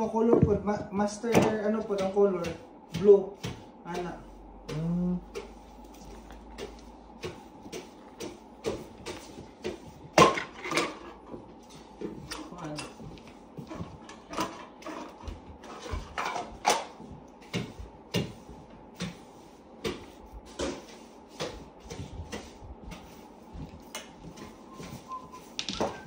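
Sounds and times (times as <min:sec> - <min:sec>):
broom sweeping floor: 0:00.0 - 0:26.0.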